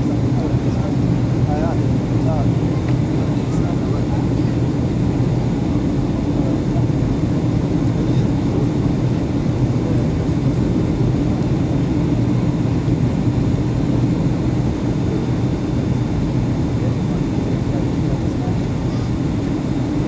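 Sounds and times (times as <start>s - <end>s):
aircraft cabin engine drone: 0.0s - 20.0s.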